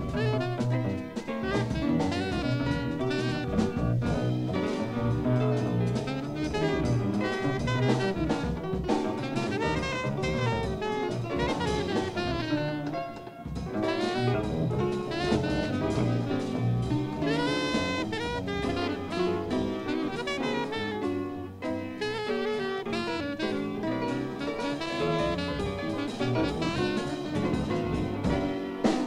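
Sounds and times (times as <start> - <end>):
drum kit: 0.0 - 29.0
saxophone and brass: 0.0 - 29.0.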